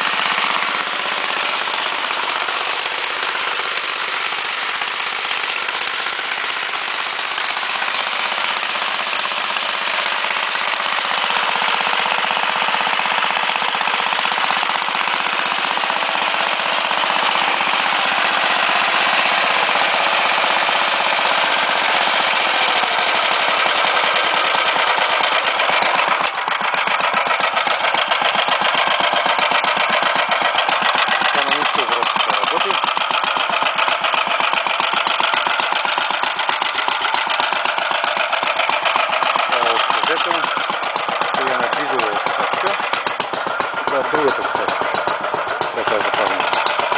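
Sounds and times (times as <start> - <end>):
motor mower engine clattering: 0.0 - 46.9.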